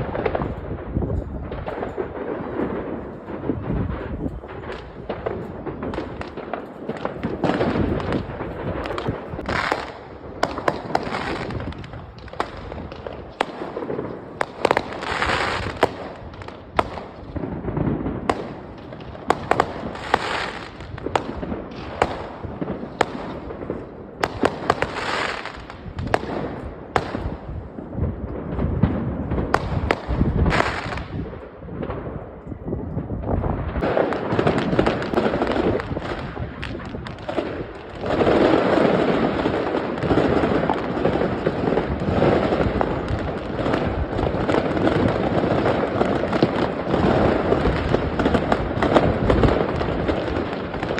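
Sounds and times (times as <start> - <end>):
fireworks bangs and booms: 0.0 - 50.9
fireworks crackling: 0.0 - 50.9.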